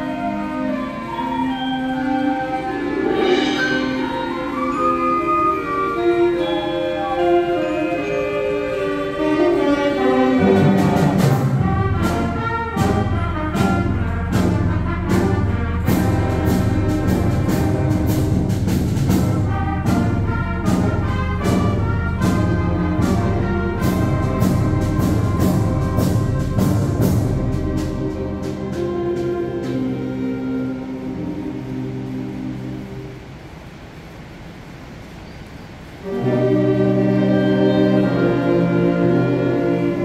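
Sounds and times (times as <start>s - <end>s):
wind band playing: 0.0s - 40.0s.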